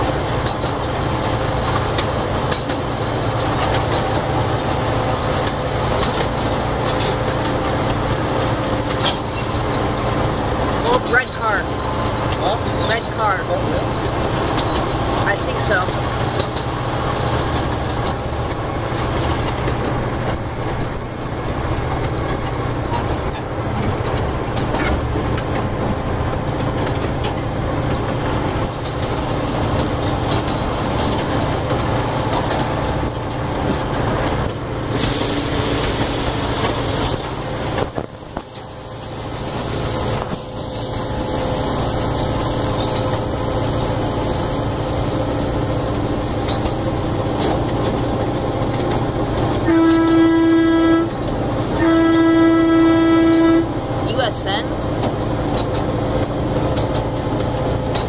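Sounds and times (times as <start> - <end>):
ride train engine hum: 0.0 - 58.0
train rolling rumble: 0.0 - 58.0.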